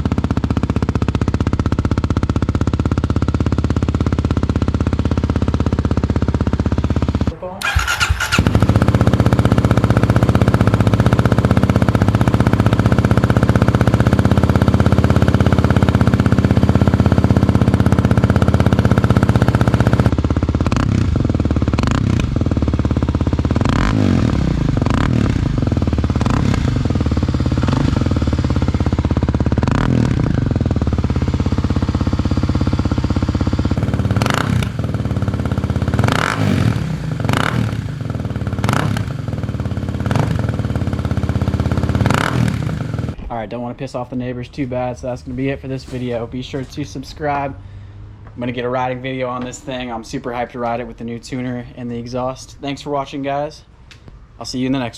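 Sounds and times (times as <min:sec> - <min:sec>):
motorcycle engine running: 0:00.0 - 0:48.7.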